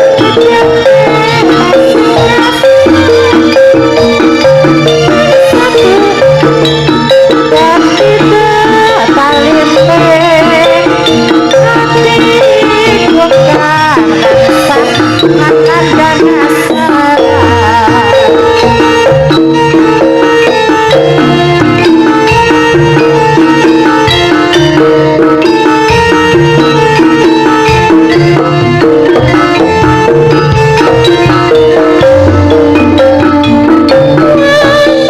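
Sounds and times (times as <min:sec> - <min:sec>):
gamelan ensemble playing: 0:00.0 - 0:35.0
hand drums fast rhythm: 0:00.0 - 0:35.0.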